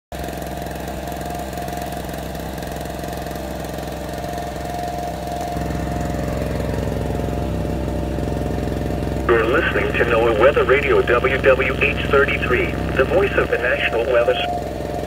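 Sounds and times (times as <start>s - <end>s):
portable generator running: 0.2s - 15.0s.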